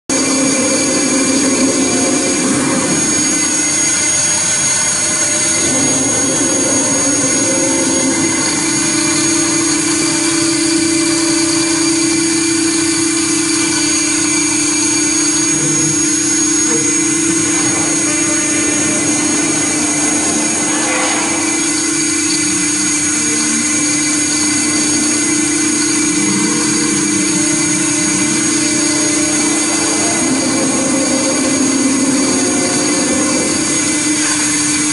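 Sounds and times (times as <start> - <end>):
router spindle whine: 0.1 - 34.9.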